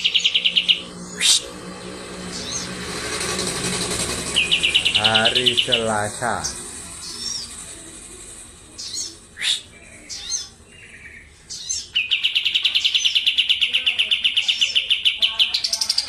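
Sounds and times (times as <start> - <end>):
bird chirping and trilling: 0.0 - 7.8, 8.7 - 16.0.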